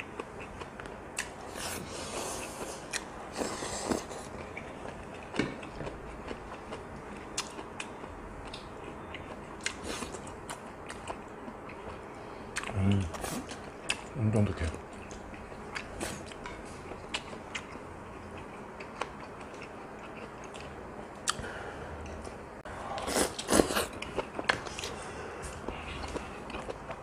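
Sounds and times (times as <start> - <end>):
chewing and biting food: 0.0 - 21.4, 23.0 - 27.0.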